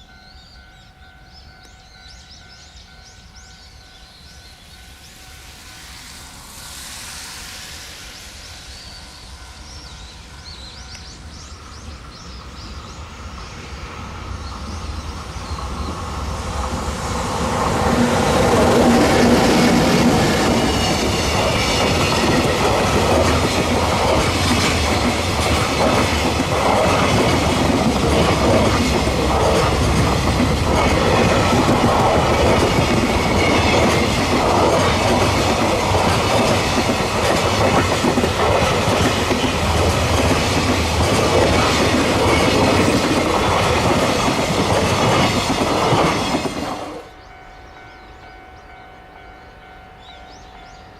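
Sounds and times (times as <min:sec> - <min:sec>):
freight train passing: 0:00.0 - 0:50.9.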